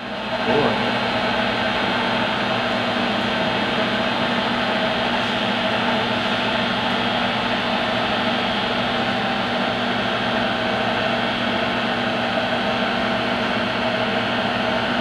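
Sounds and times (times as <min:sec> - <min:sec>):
lathe spindle humming: 0:00.0 - 0:15.0.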